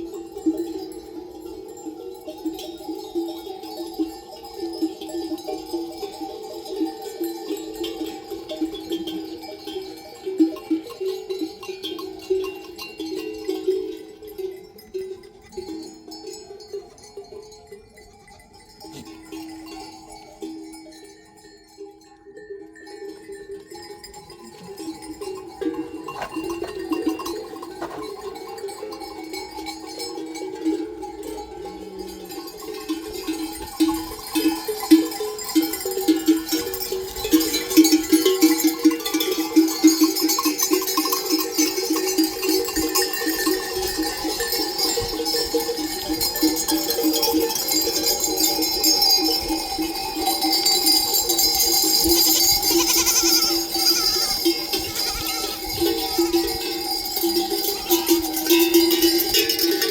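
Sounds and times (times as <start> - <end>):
sheep and goat bells clanking: 0.0 - 59.9.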